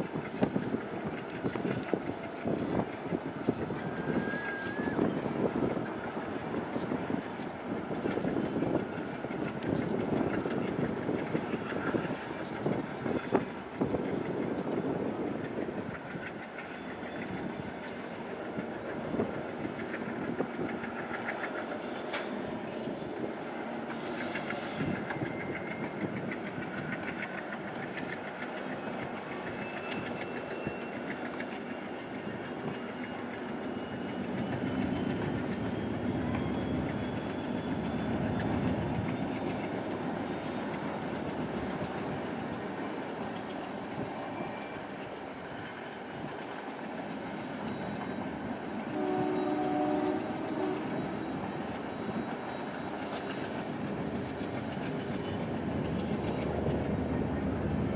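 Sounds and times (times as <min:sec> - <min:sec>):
train rumbling along track: 0:00.0 - 0:57.9.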